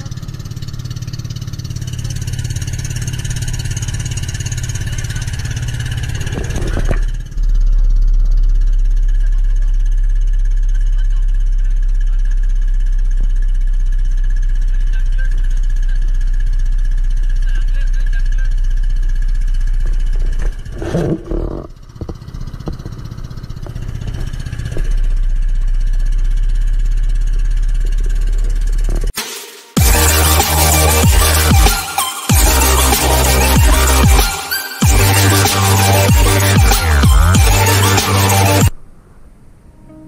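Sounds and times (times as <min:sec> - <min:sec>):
boat engine running: 0:00.0 - 0:29.2, 0:29.8 - 0:39.8.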